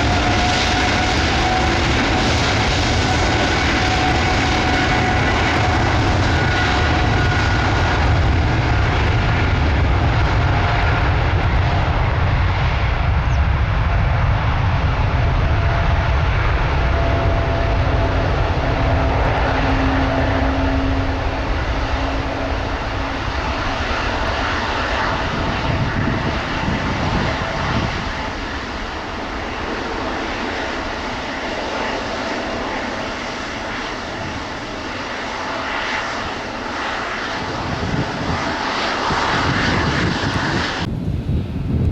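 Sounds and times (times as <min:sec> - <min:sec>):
jet engines at takeoff power: 0:00.0 - 0:41.9.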